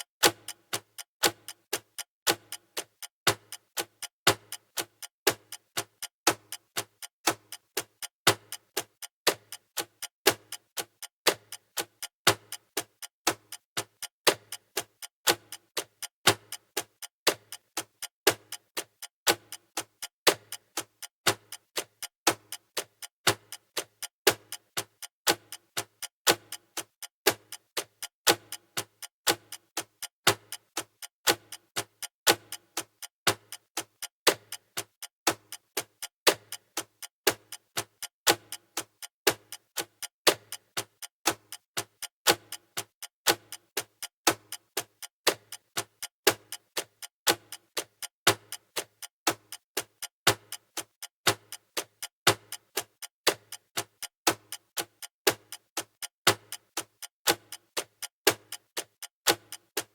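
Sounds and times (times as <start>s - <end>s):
countdown timer ticking: 0.0s - 59.9s.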